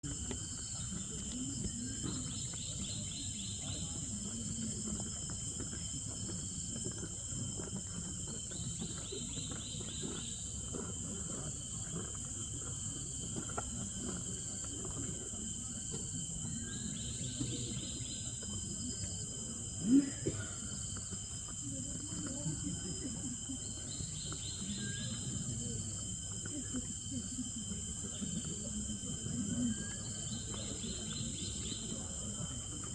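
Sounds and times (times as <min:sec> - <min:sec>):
insects droning: 0:00.0 - 0:32.9
pulsed insect trill: 0:00.0 - 0:32.9.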